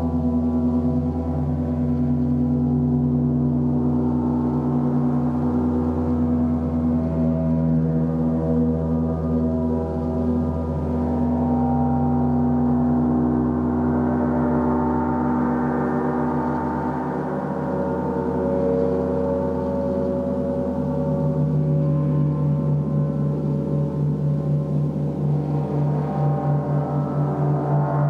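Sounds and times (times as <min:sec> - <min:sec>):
gong sustaining dense tones: 0:00.0 - 0:28.0.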